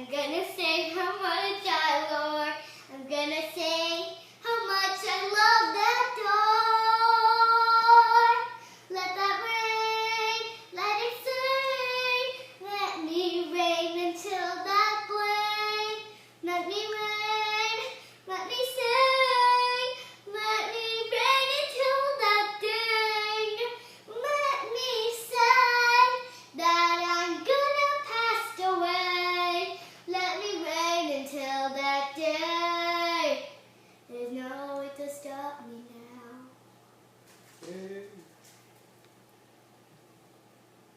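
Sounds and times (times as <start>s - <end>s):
girl singing unaccompanied: 0.0s - 36.7s.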